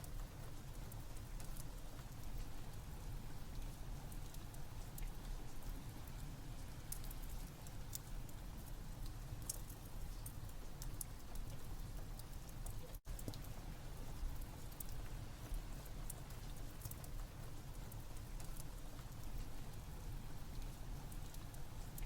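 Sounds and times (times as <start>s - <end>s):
rain: 0.0s - 22.0s
wood fire crackling: 0.0s - 22.0s.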